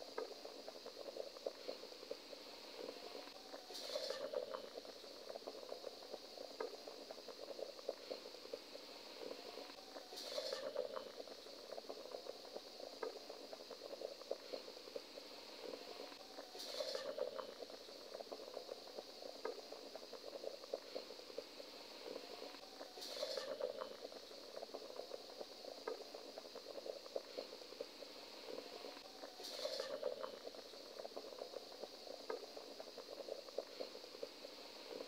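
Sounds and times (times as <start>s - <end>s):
water boiling in a pot: 0.0s - 35.0s.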